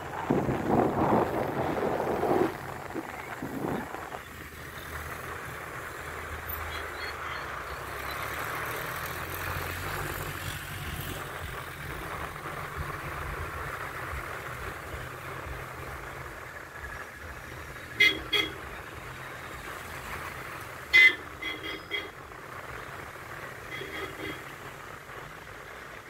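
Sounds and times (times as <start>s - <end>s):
continuous rushing noise: 0.0s - 26.0s
vehicle engine running: 0.0s - 26.0s.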